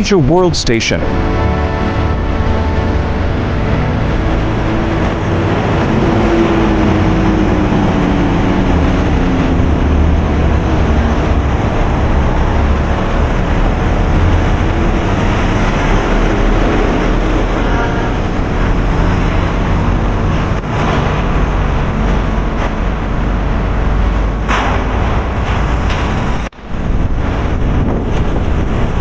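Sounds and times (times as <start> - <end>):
heavy traffic rumble: 0.0 - 29.0.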